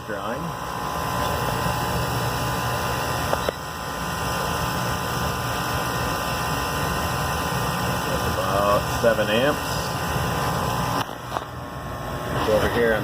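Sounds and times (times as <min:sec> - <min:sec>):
heat pump compressor humming: 0:00.0 - 0:13.0.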